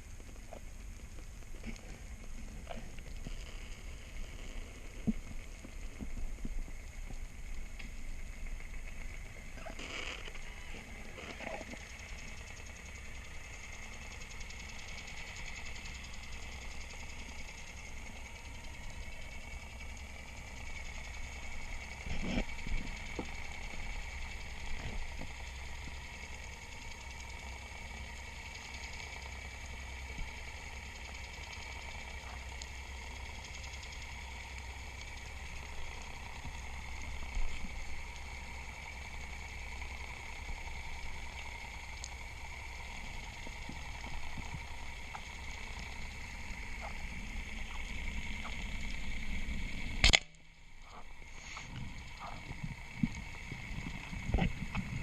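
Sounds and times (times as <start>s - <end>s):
faint high whine: 0.0s - 55.0s
motor hum: 0.0s - 55.0s.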